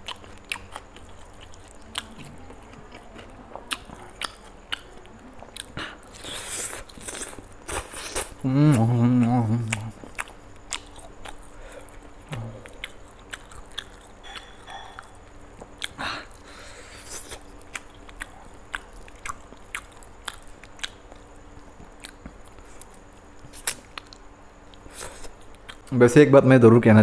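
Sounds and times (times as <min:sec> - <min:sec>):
man chewing: 0:00.0 - 0:26.0.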